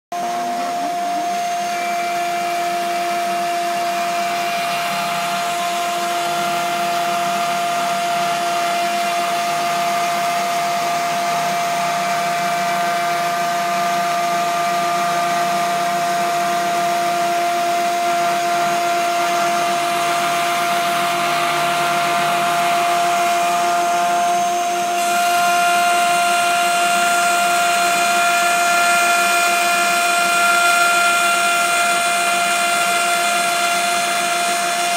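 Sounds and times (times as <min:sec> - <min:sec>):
power tool motor whine: 0:00.1 - 0:34.9.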